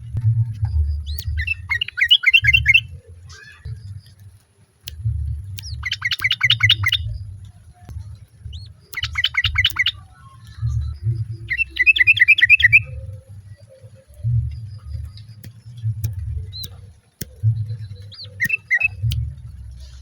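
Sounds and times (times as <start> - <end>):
low rumble: 0.0 - 20.0
bulbul bubbling chatter: 0.8 - 20.0.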